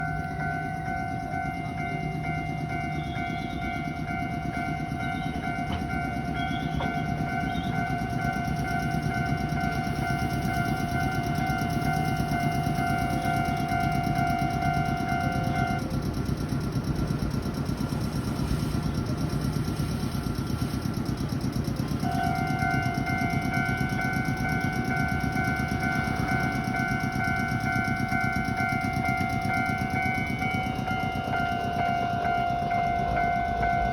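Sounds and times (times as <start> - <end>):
level crossing bells clanging: 0.0 - 16.0, 20.5 - 33.9
train rumbling: 0.0 - 33.9.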